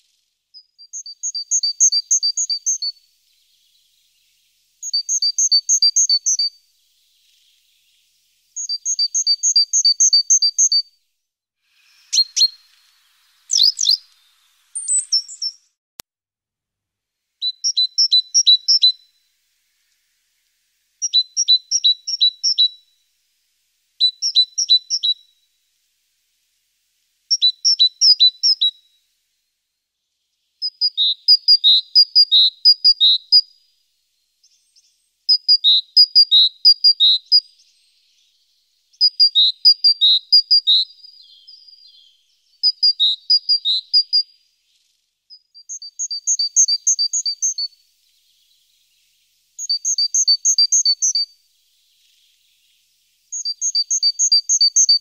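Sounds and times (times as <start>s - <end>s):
small songbird singing: 0.0s - 15.8s, 17.4s - 55.0s.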